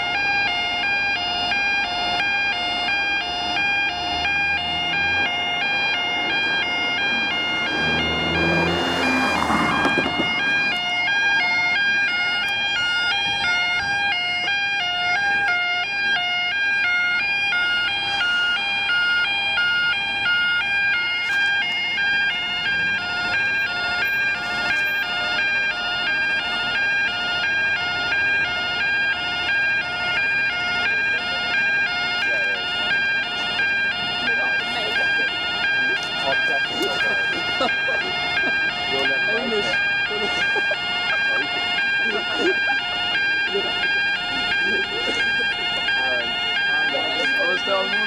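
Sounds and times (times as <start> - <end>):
two-pitch level crossing alarm: 0.0 - 15.7, 17.6 - 48.0.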